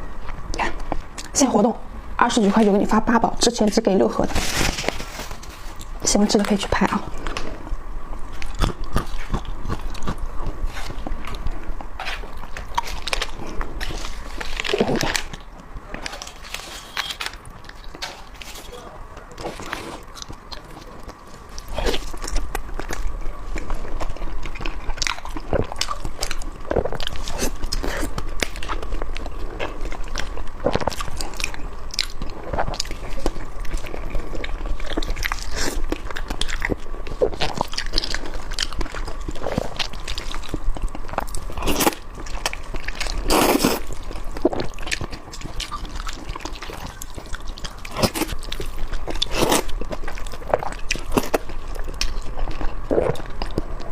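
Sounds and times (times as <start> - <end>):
faint steady hum: 0.0 - 53.9
person chewing and biting food: 7.1 - 18.7, 19.3 - 53.9.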